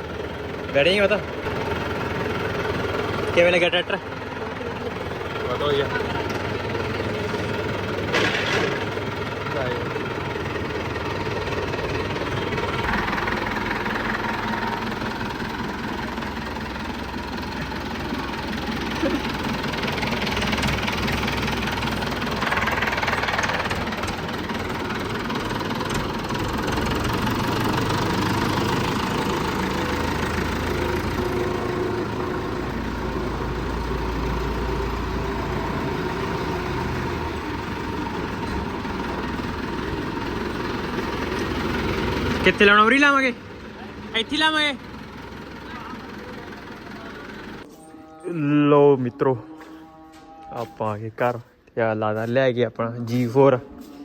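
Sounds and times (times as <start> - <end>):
tractor engine running: 0.0 - 47.7.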